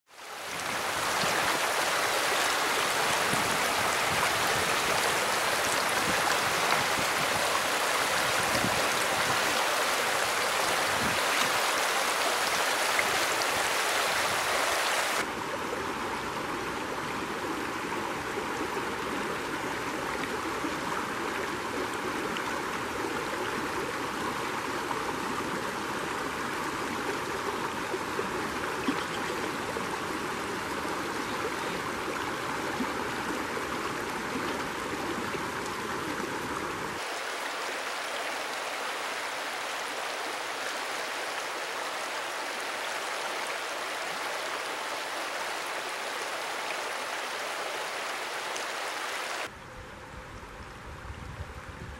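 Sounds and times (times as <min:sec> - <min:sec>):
creek water flowing: 0:00.1 - 0:49.6.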